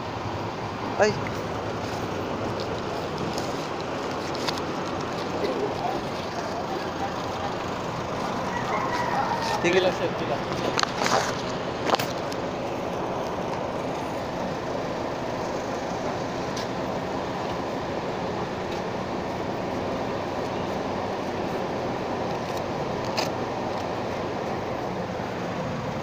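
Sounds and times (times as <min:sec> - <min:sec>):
engine rumble: 0:00.0 - 0:26.0.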